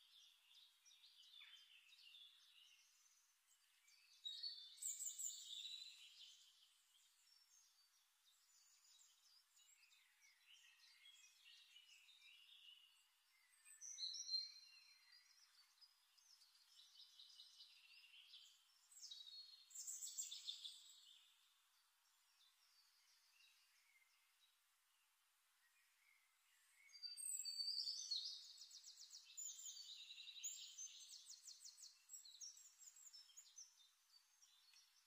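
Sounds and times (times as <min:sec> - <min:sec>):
faint birdsong: 0:00.0 - 0:35.0.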